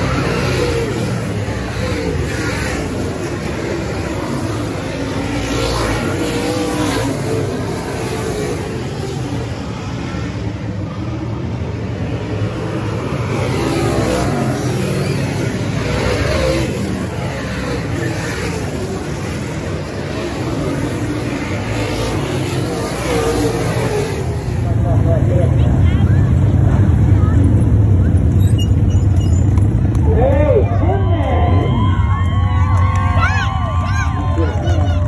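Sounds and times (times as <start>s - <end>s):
race car engines roaring: 0.0s - 35.0s.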